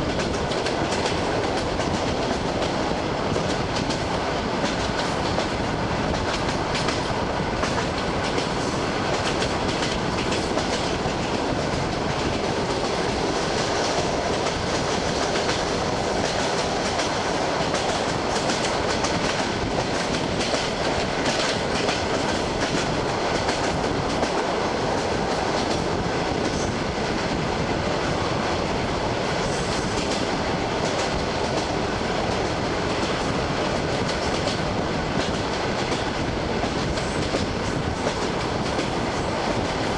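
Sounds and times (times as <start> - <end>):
train rumbling: 0.0 - 39.9
train wheels clattering over rail joints: 0.0 - 39.9.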